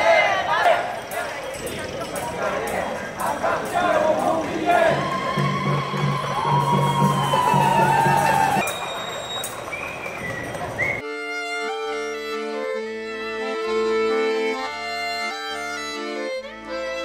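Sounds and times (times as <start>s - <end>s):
accordion music: 0.0s - 17.0s
street ambience: 0.0s - 17.0s.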